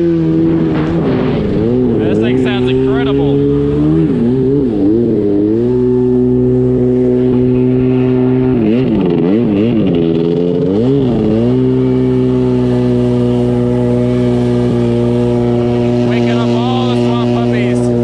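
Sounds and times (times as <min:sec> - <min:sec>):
loud two-stroke engine revving: 0:00.0 - 0:18.0.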